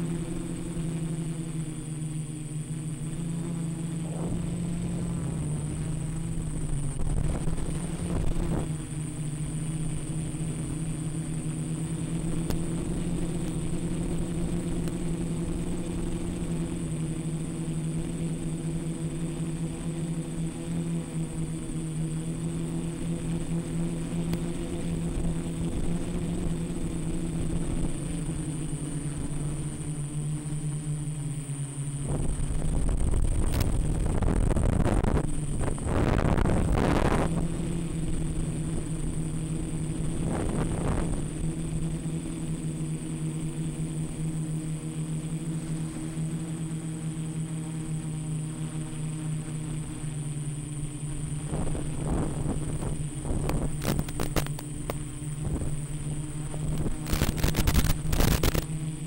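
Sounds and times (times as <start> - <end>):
drone propellers droning: 0.0 - 59.0
high-pitched whine: 0.0 - 59.0.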